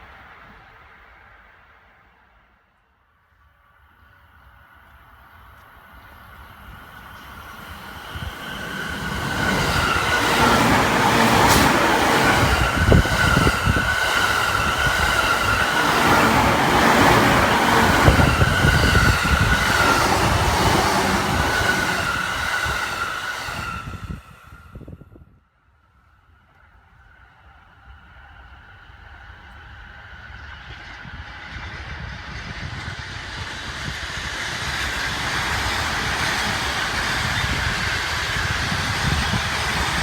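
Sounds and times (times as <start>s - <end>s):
electric train passing: 3.5s - 25.2s, 26.2s - 40.0s.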